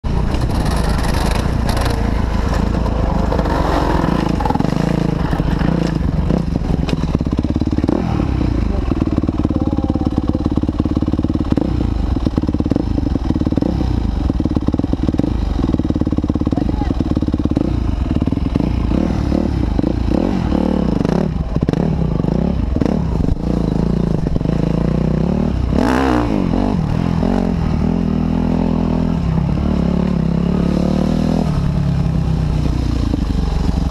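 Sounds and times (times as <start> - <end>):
dirt bike engines revving: 0.1 - 33.9.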